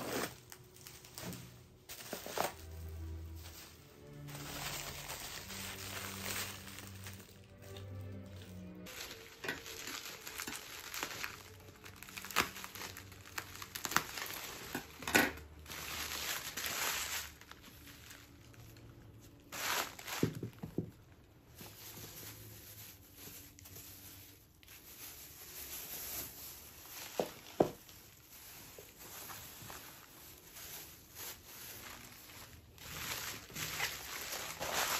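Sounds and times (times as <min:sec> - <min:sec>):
bubble wrap crinkling: 0:00.0 - 0:34.9.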